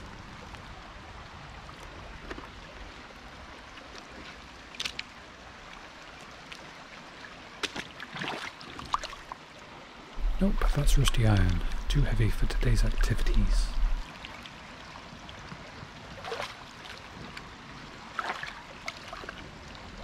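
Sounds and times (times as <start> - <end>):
river water trickling: 0.0 - 20.0.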